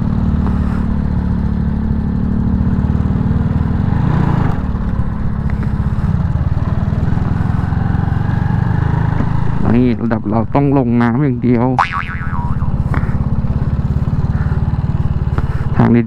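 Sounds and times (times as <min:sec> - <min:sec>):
motorcycle engine under load: 0:00.0 - 0:16.0.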